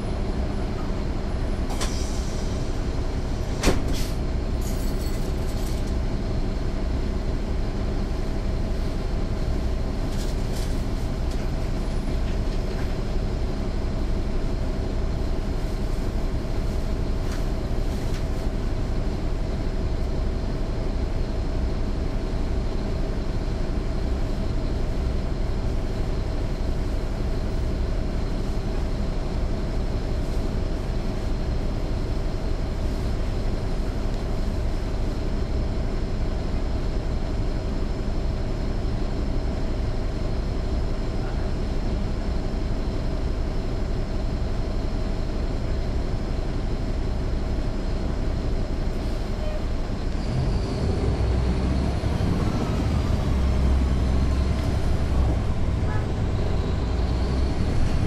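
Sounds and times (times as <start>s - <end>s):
diesel bus engine running: 0.0s - 58.0s.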